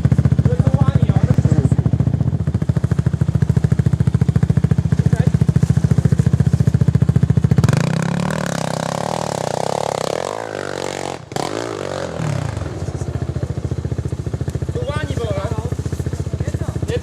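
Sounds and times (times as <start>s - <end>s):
atv engine idling and revving: 0.0s - 17.0s.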